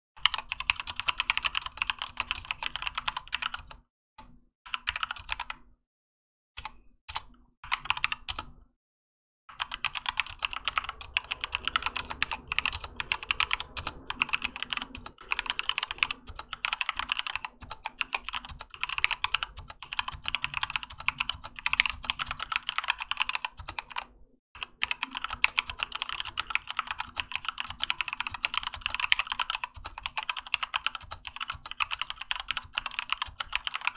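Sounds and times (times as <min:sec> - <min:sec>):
mechanical keyboard typing: 0:00.2 - 0:05.7, 0:06.6 - 0:08.6, 0:09.5 - 0:33.9.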